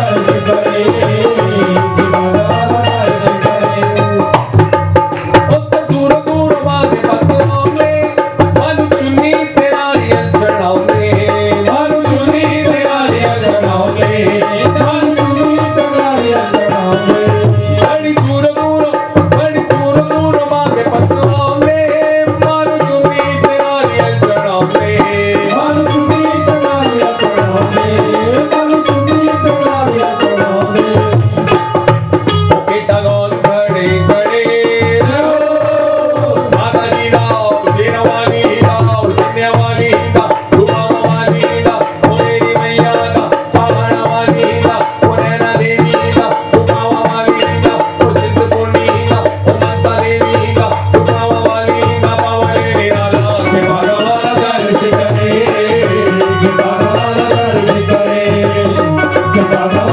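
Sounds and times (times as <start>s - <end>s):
drum accompaniment: 0.0s - 59.9s
men singing devotional song: 0.0s - 59.9s.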